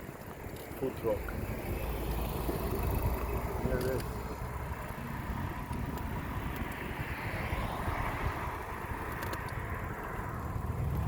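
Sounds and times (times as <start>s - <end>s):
low traffic rumble: 0.0s - 11.0s
vehicle passing: 0.8s - 11.0s.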